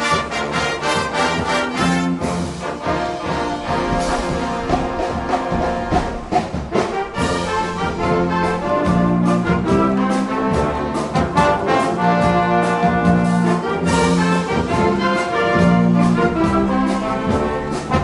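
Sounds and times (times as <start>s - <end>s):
brass section playing: 0.0s - 18.0s
steady drum beat: 0.0s - 18.0s.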